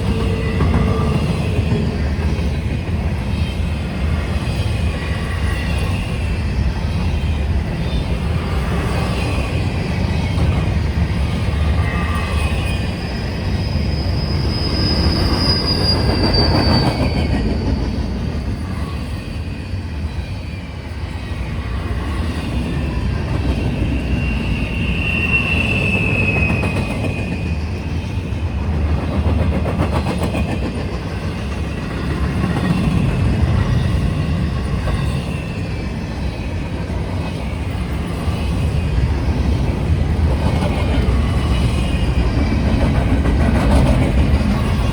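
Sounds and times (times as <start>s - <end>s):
high wheel squeal: 0.0s - 29.2s, 30.1s - 44.9s
train wheels rumbling on rail: 0.0s - 44.9s.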